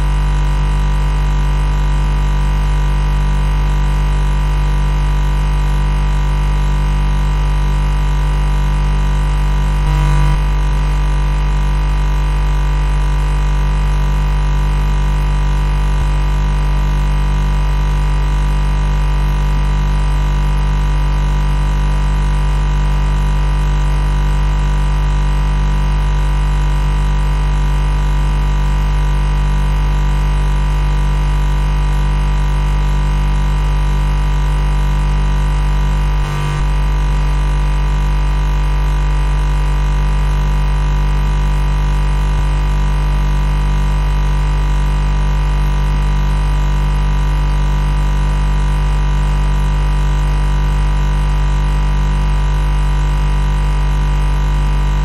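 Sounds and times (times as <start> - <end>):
refrigerator compressor hum: 0.0 - 55.0.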